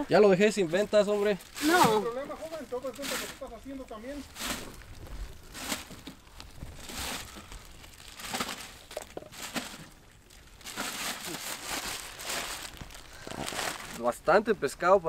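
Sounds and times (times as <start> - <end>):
plastic bag rustling: 0.4 - 14.2.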